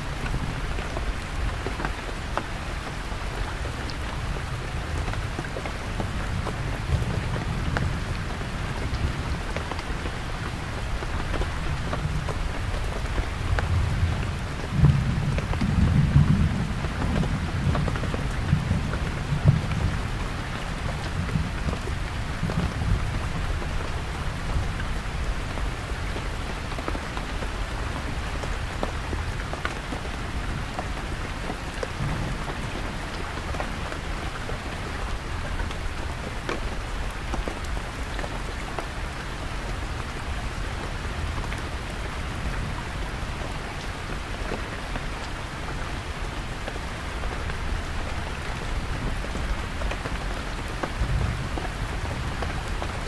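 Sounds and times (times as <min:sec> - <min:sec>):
heavy rain on a canvas tent: 0:00.0 - 0:53.0.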